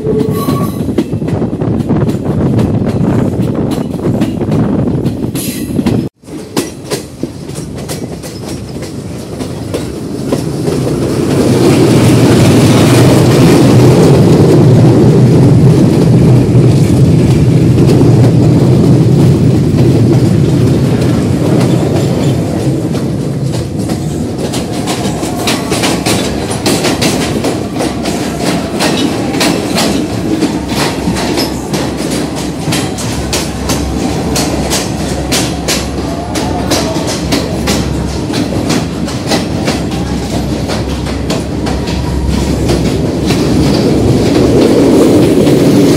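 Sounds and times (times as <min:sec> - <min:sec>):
train wheels rumbling on track: 0:00.0 - 0:45.9
wheels clacking over rail joints: 0:00.0 - 0:45.9.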